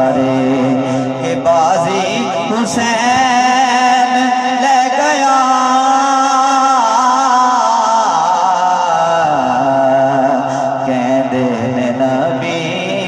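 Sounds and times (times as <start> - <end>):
man singing through loudspeakers: 0.0 - 13.0.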